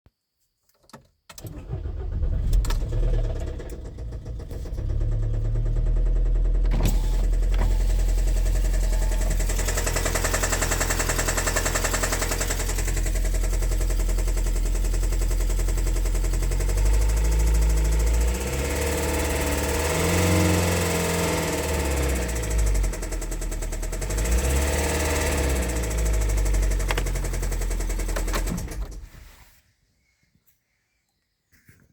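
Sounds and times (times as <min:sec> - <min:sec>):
car engine starting and running: 0:01.3 - 0:29.5.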